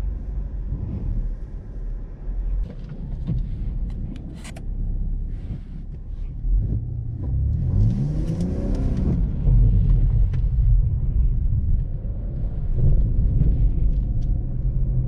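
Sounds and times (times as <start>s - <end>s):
car engine revving low rumble: 0.0s - 15.0s.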